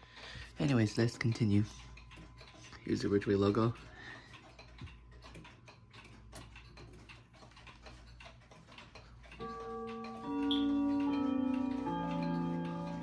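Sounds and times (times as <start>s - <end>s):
clock ticking faintly: 0.0s - 13.0s.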